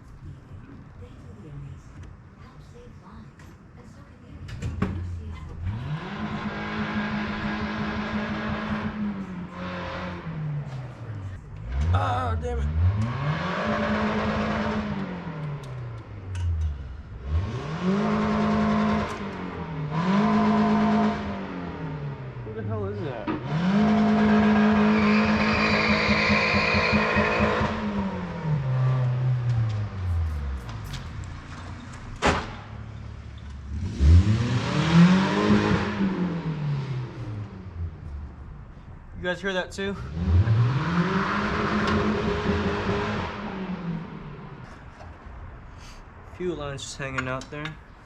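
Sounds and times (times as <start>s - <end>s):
vehicle engine revving: 5.5s - 38.9s, 39.9s - 45.6s.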